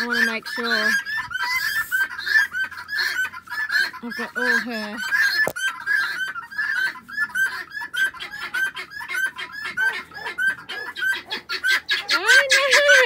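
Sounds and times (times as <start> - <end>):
guinea fowl calling: 0.0 - 13.0.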